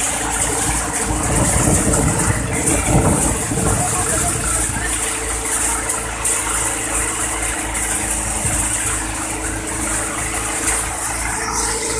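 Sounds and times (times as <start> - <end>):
thresher machine drone: 0.0 - 11.9.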